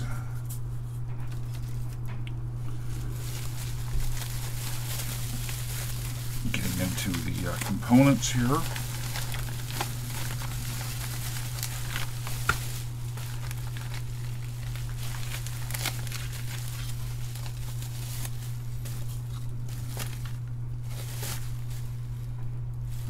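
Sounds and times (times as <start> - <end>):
bubble wrap crinkling: 0.0 - 23.0
steady low hum: 0.0 - 23.0.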